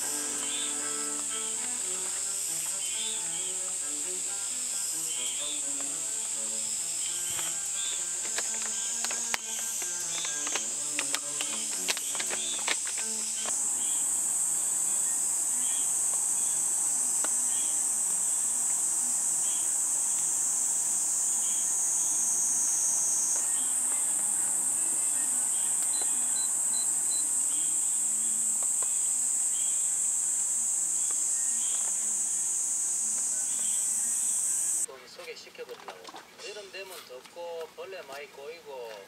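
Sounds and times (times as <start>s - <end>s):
insect chorus drone: 0.0s - 34.9s.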